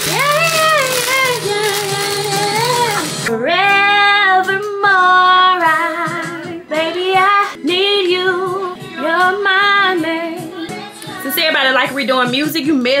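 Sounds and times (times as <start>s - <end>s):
woman singing a slow ballad: 0.0s - 12.0s.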